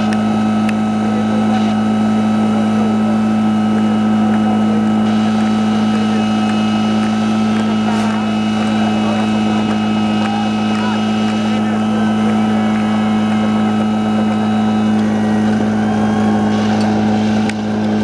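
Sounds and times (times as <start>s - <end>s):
pump engine idling: 0.0s - 18.0s.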